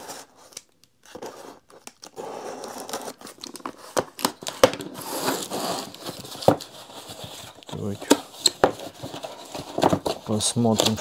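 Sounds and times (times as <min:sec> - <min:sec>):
cardboard scraping and rustling: 0:01.1 - 0:11.0.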